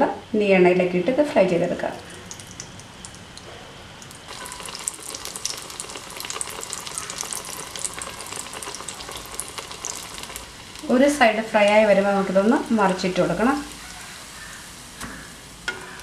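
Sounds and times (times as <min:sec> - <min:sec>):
food deep-frying in oil: 0:01.4 - 0:16.0.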